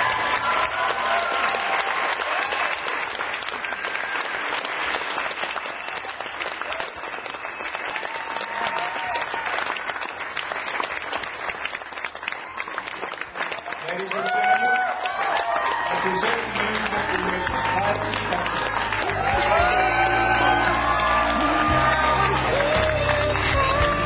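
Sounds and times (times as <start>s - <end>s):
crowd applauding: 0.0s - 24.0s
people cheering: 0.0s - 24.0s.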